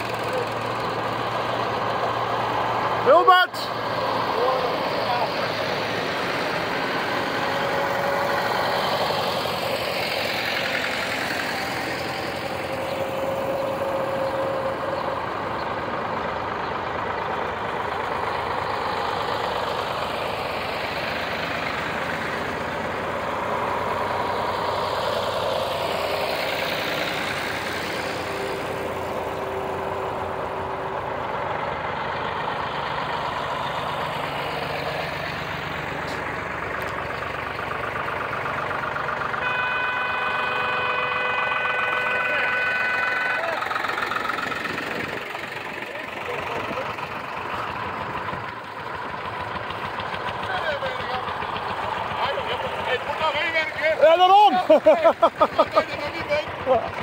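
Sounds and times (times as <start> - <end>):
tractors driving past: 0.0 - 57.0.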